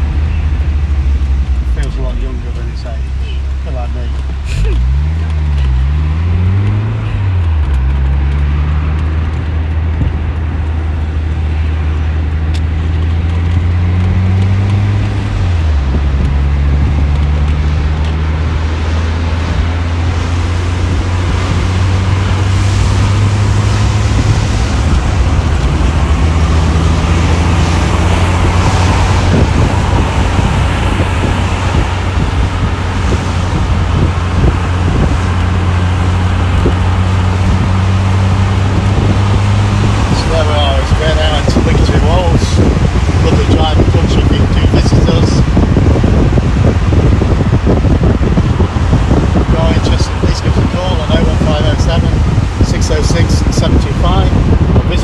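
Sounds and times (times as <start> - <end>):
car engine revving: 0.0 - 55.0
road and wind noise: 0.0 - 55.0.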